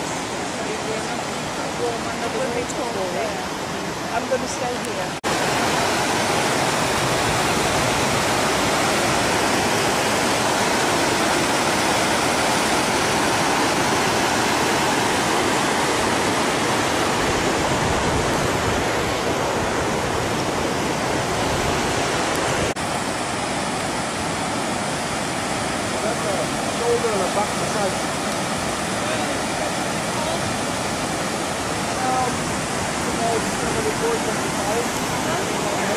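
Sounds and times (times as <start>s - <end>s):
waterfall rushing over rocks: 0.0s - 35.9s.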